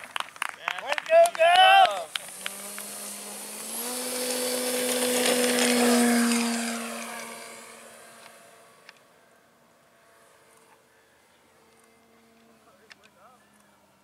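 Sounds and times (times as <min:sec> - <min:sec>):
model airplane motor and propeller: 0:00.0 - 0:14.0.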